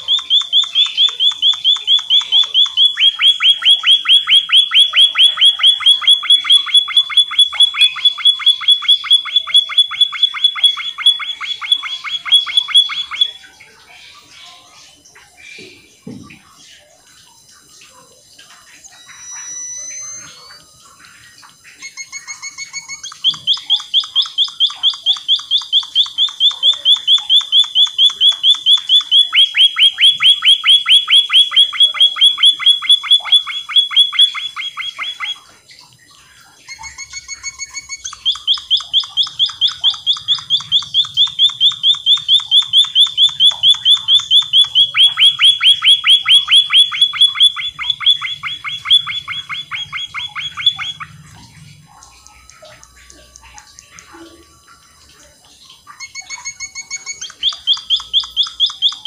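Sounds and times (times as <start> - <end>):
bird singing high notes: 0.0 - 14.7, 18.7 - 59.0.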